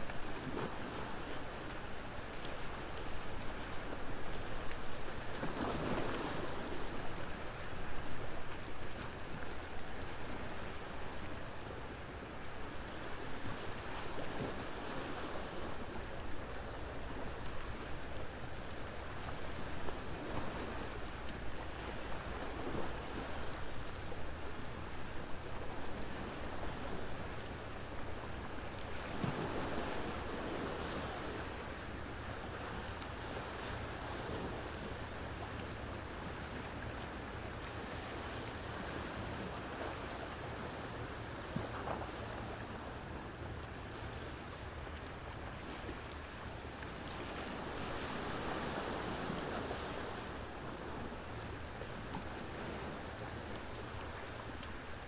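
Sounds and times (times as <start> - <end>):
ocean waves washing ashore: 0.0 - 55.0.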